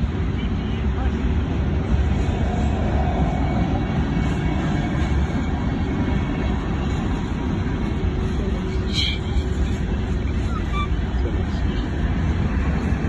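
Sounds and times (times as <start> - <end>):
steel wheels rumbling on rail: 0.0 - 13.0.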